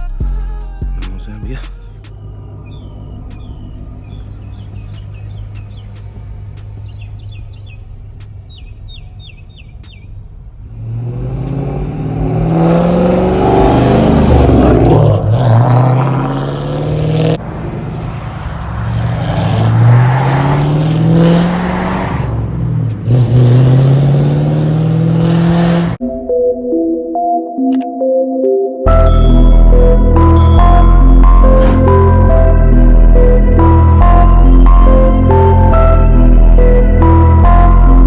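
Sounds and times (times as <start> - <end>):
car engine accelerating: 2.0 - 26.0, 28.9 - 38.0.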